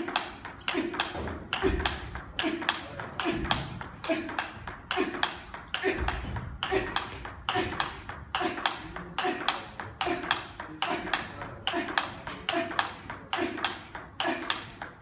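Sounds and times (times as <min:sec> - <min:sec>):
table tennis ball clicking: 0:00.0 - 0:15.0.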